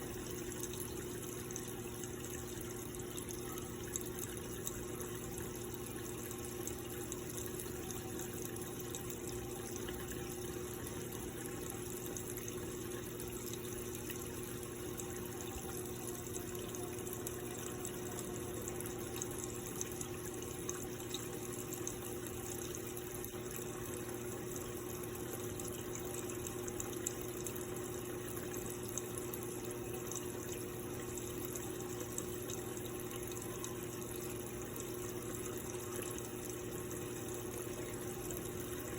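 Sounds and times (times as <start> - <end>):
water running into washing machine: 0.0 - 38.9.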